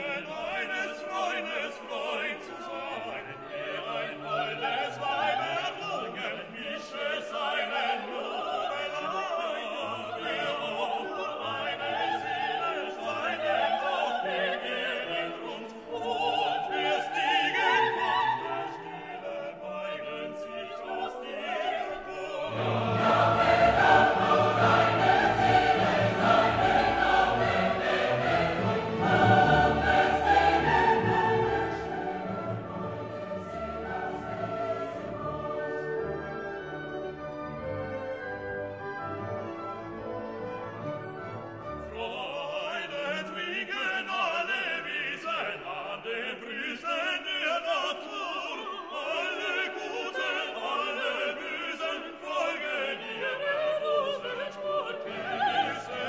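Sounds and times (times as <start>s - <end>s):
choir singing with orchestra: 0.0s - 56.0s.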